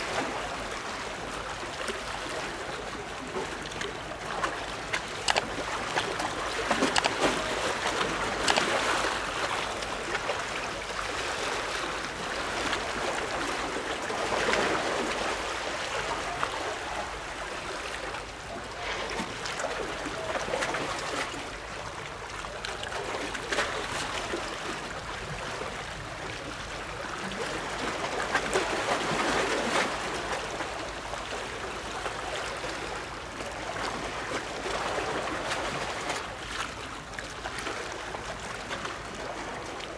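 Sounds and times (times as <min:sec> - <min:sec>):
water lapping at shoreline: 0:00.0 - 0:39.9.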